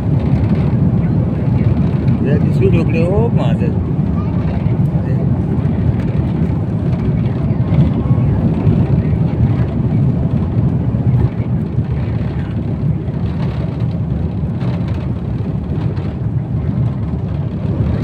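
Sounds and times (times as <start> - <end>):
jet engines rumbling at takeoff: 0.0 - 18.0.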